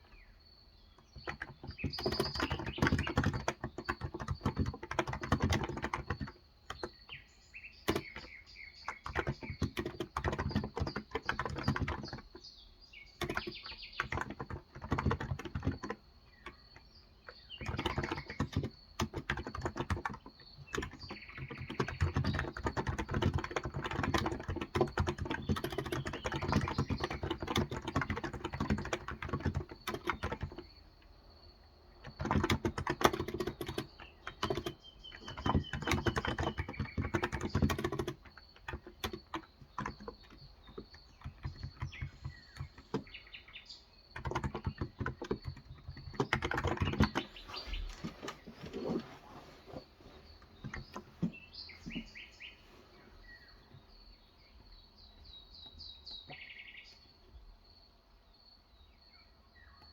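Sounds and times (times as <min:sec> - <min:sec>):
keyboard typing: 0:01.0 - 0:12.5, 0:13.1 - 0:52.2.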